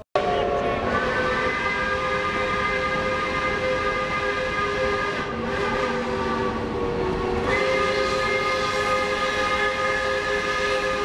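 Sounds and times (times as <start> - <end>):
passing train rolling: 0.2 - 11.0
steam locomotive whistle blowing: 0.2 - 11.0.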